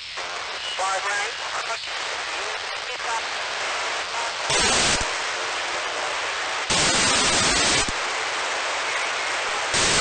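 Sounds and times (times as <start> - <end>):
radio static hiss: 0.0 - 10.0
rush of radio noise: 0.0 - 10.0.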